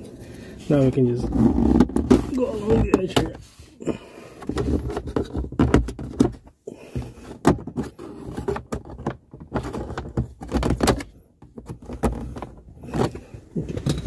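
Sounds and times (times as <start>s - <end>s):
pry tool scraping plastic: 1.1s - 14.0s.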